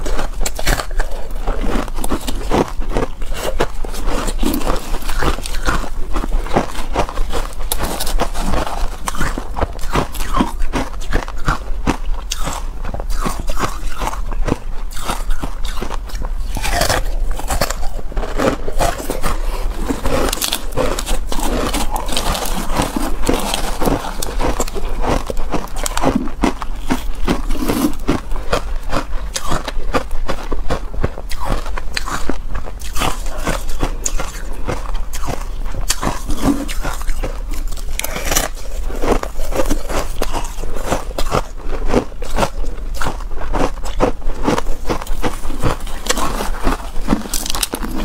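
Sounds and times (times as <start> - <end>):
ice crunching being chewed: 0.0 - 48.0.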